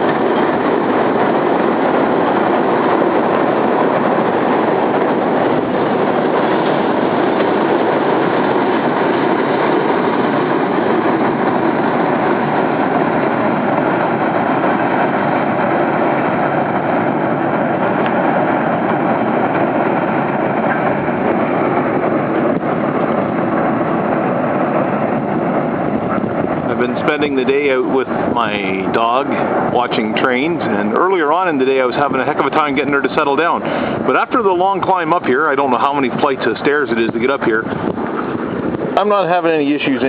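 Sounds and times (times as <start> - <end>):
freight train rumbling by: 0.0 - 40.0.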